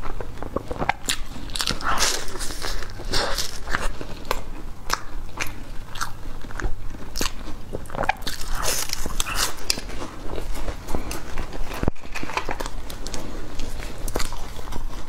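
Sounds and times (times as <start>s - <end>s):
crunching pastry crust: 0.0s - 15.0s.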